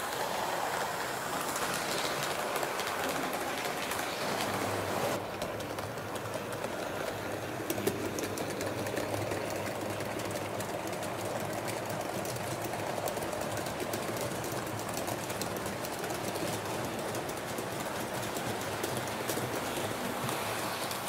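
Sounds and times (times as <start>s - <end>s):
model train wheels clicking: 0.0s - 21.0s.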